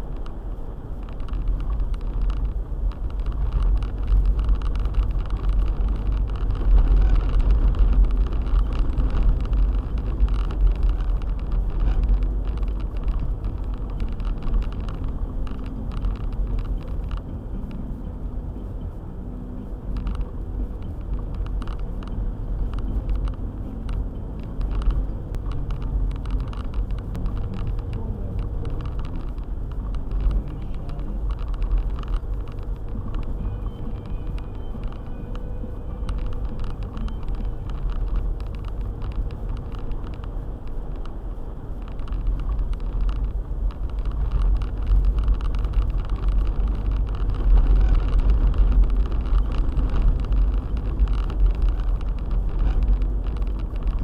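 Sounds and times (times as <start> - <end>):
car engine and road rumble: 0.0 - 54.0
small ticks and knocks: 1.0 - 17.8, 19.9 - 54.0.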